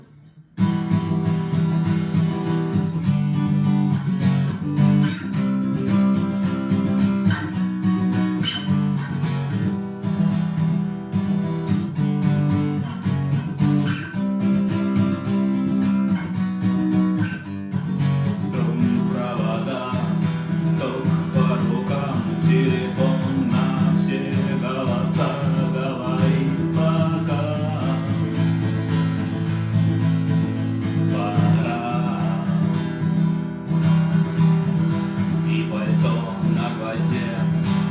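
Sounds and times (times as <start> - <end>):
acoustic guitar strumming: 0.0 - 37.9.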